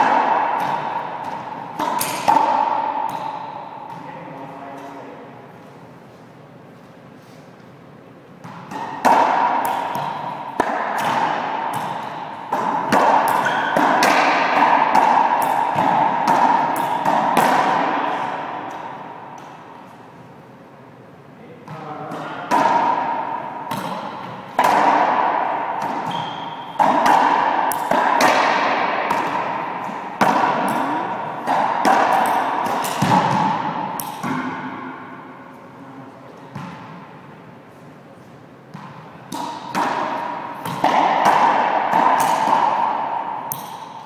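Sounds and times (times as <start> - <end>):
racquet and ball cracks echoing: 0.0 - 6.4, 7.5 - 44.0.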